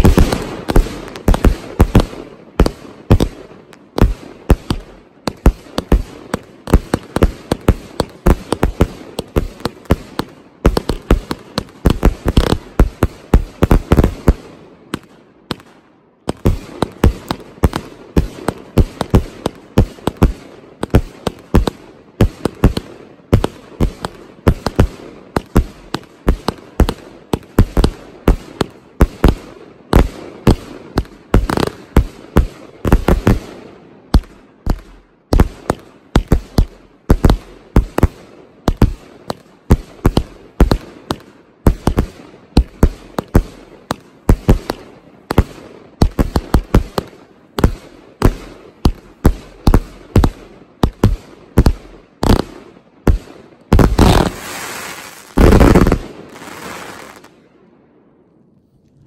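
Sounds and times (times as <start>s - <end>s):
firework cake barrage of bangs: 0.0s - 57.3s.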